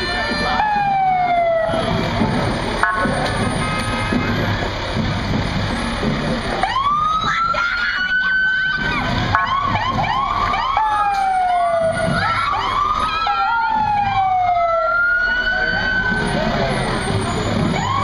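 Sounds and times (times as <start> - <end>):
fire truck sirens wailing: 0.0 - 18.0
truck engine rumble: 0.0 - 18.0.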